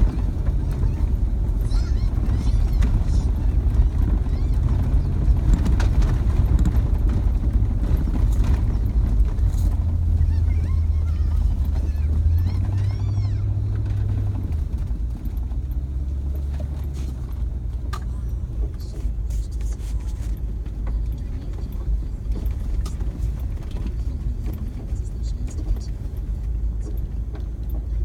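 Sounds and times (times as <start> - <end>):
rattling road noise: 0.0 - 28.0
vehicle engine drone: 0.0 - 28.0.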